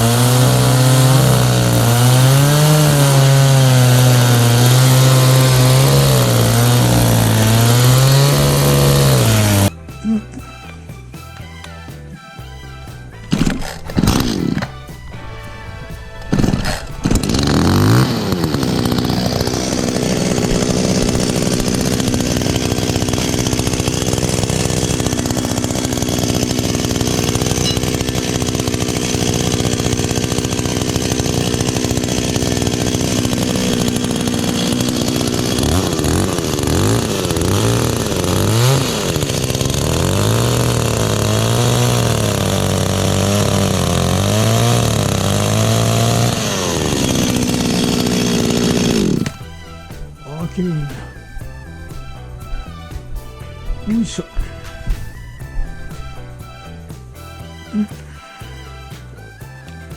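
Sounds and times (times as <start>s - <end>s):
chainsaw revving: 0.0s - 10.6s, 13.2s - 59.9s.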